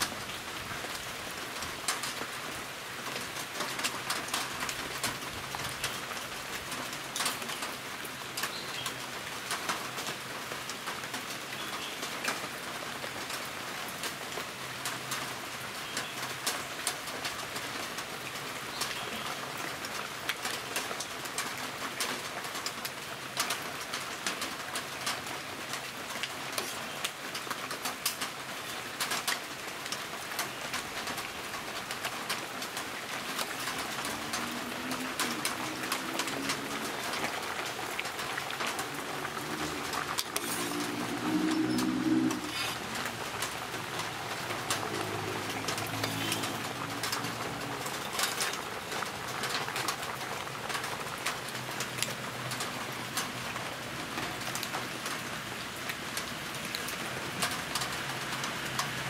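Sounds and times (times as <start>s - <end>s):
pot boiling with crackling pops: 0.0s - 59.0s.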